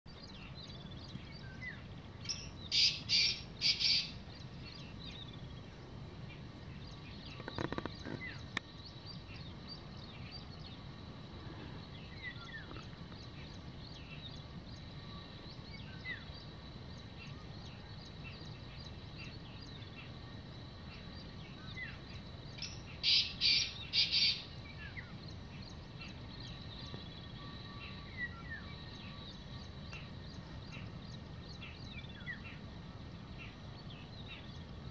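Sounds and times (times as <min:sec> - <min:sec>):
faint small bird chirps: 0:00.2 - 0:05.7, 0:11.6 - 0:34.7.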